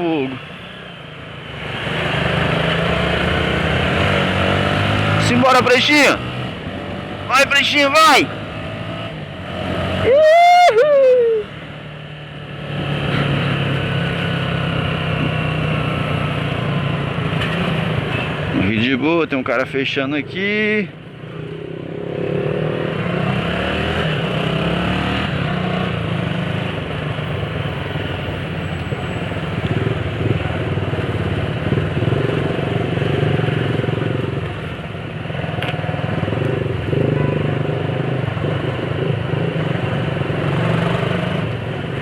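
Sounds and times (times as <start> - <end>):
road and wind noise: 0.0 - 42.0.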